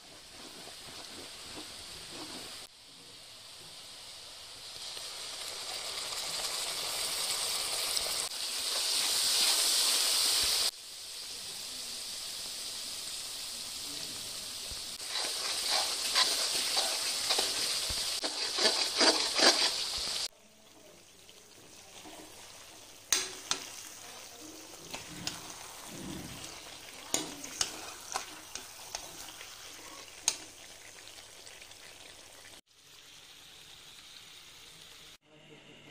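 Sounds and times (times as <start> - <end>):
curry sizzling: 0.0 - 35.2
spices sizzling in a pan: 0.0 - 35.2.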